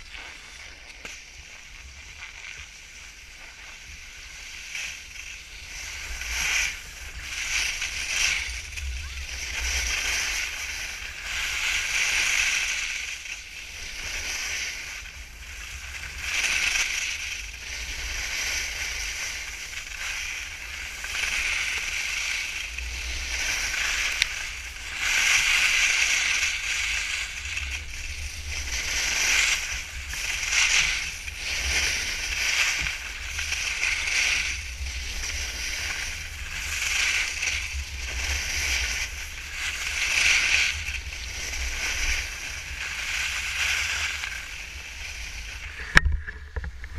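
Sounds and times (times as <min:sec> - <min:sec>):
skis carving across snow: 0:00.0 - 0:46.9
wind rumble on microphone: 0:00.0 - 0:46.9.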